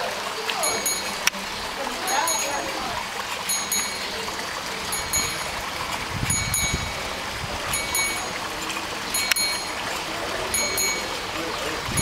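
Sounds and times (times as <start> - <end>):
water running and trickling: 0.0 - 12.0.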